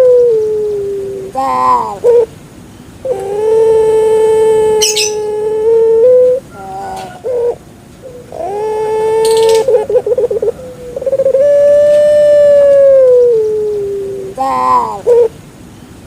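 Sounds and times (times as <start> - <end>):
dove cooing: 0.0 - 2.3, 3.0 - 15.4.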